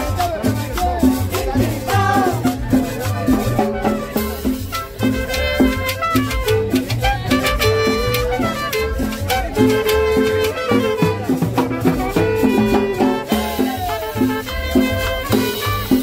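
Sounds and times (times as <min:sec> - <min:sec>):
accordion melody: 0:00.0 - 0:16.0
plucked upright bass: 0:00.0 - 0:16.0.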